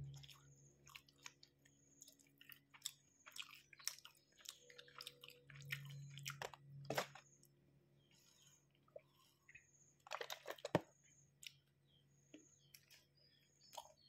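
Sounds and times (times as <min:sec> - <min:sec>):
chewing food: 0:00.0 - 0:07.6, 0:08.6 - 0:14.0.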